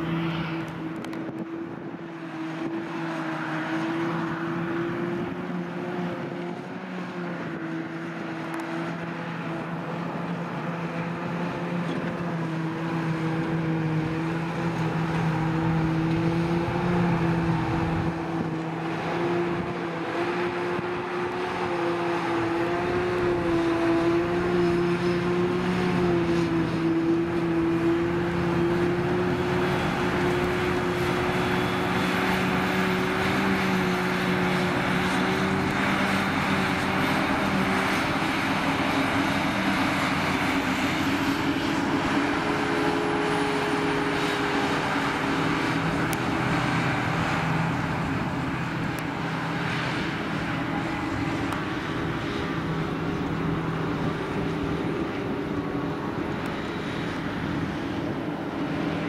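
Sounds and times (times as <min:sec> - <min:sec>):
diesel machinery engines droning: 0:00.0 - 0:59.0.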